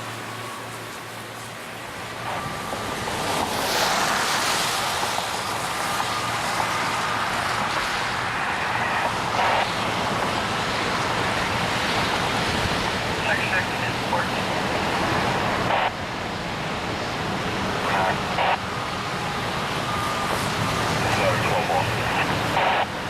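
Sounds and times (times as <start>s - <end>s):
heavy rain: 1.6s - 23.0s.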